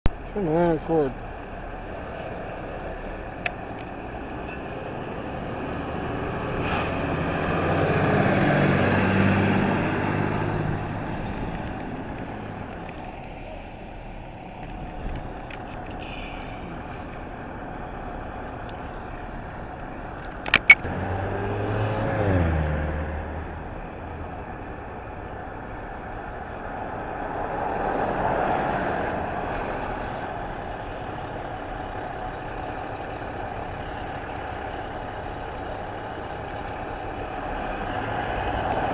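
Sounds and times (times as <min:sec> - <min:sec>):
lower truck engine: 0:00.0 - 0:38.9
truck diesel engine driving off: 0:00.0 - 0:38.9.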